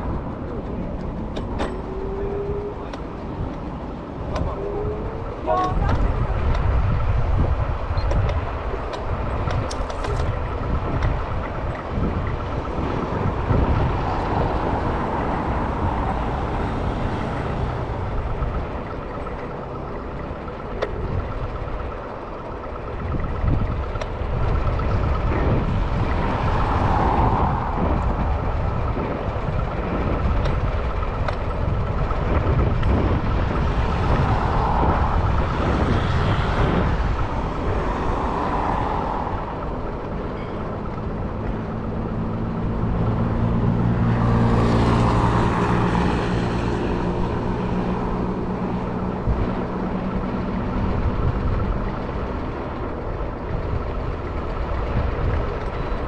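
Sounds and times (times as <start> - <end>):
wheels rolling over pavement: 0.0 - 56.0
wind rumble on microphone: 0.0 - 56.0.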